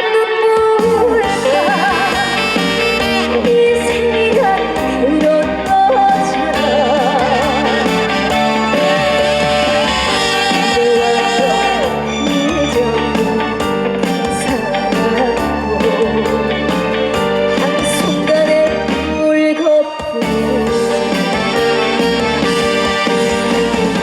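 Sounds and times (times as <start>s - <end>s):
woman singing with vibrato: 0.0s - 24.0s
instrumental accompaniment: 0.3s - 24.0s.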